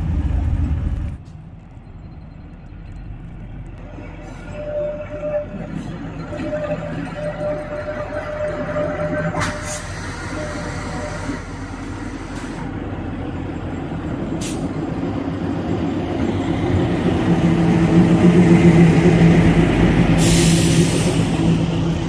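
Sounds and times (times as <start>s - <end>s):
rail car engine drone: 0.0s - 22.0s
rail rumble: 0.0s - 22.0s.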